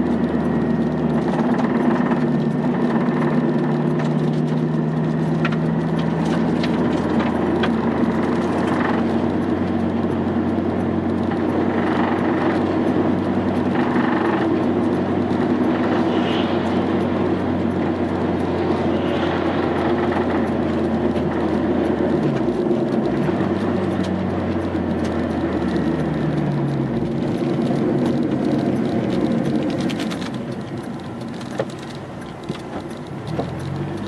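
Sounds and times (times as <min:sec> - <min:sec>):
vehicle engine hum: 0:00.0 - 0:34.0.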